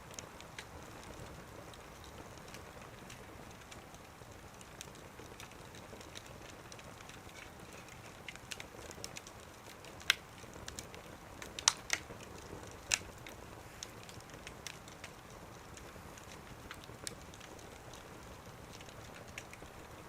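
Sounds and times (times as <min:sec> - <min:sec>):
wood fire crackling in stove: 0:00.0 - 0:20.0
sharp pops of fire: 0:00.1 - 0:20.0.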